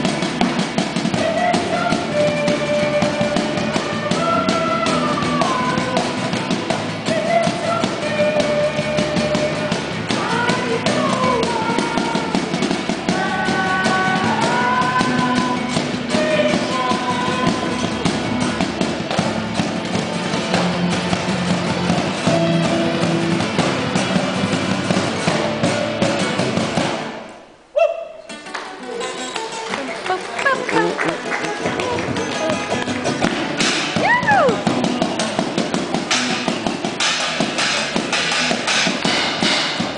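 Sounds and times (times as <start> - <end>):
music with guitar: 0.0 - 27.5, 28.3 - 39.9.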